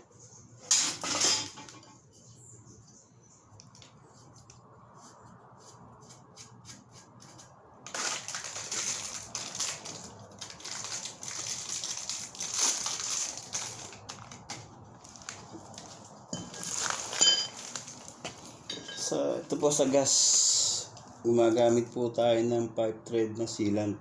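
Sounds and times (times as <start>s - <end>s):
crackling handling noise: 0.1s - 20.2s.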